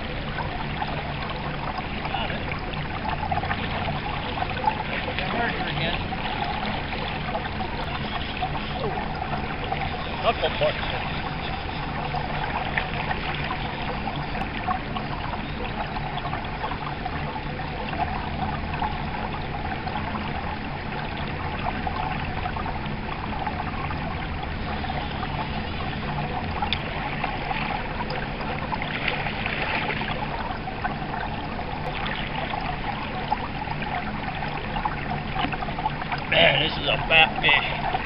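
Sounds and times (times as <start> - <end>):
stream burbling over stones: 0.0 - 38.0.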